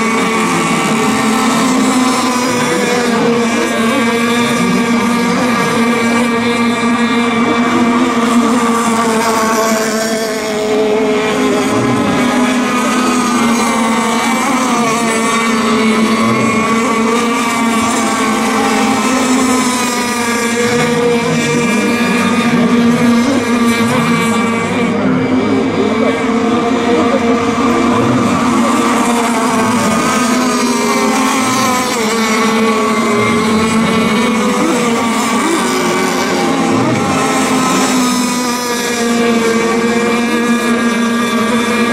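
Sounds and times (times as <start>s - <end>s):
model boat engines whining: 0.0s - 41.9s.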